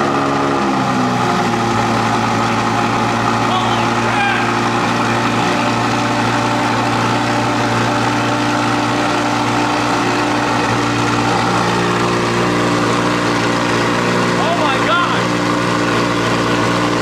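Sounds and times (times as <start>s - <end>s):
car engine idling: 1.2s - 17.0s.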